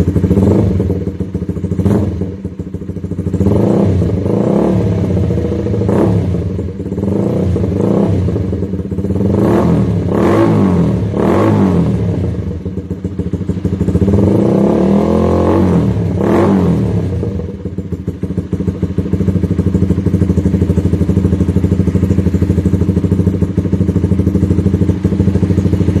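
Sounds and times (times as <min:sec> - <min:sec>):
motorcycle engine revving and idling: 0:00.0 - 0:26.0.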